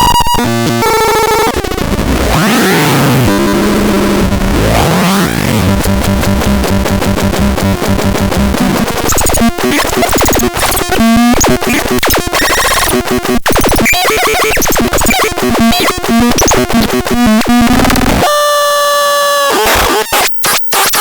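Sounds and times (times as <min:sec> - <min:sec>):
harsh synthesizer noise: 0:00.0 - 0:21.0.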